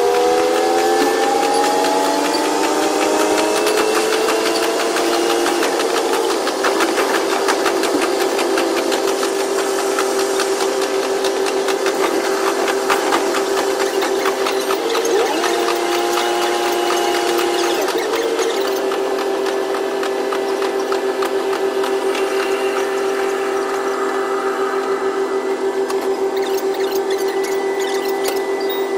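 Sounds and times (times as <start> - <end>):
wheels clattering on rail: 0.0 - 24.1
railcar engine and drive whine: 0.0 - 28.9.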